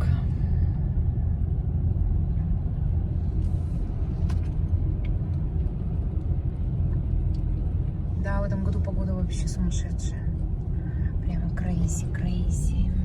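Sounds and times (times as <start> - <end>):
car driving rumble inside cabin: 0.0 - 13.0.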